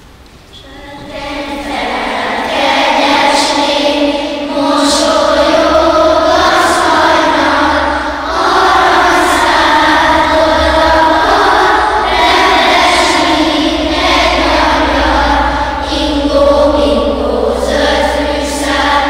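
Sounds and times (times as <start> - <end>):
children singing in unison: 0.5 - 19.0.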